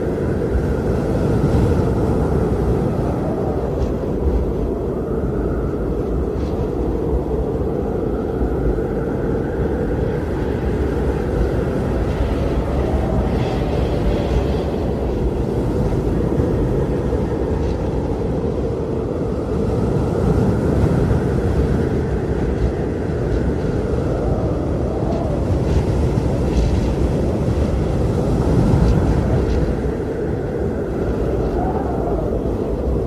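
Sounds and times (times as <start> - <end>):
howling wind whistle: 0.0 - 33.0
wind blowing hard: 0.0 - 33.0.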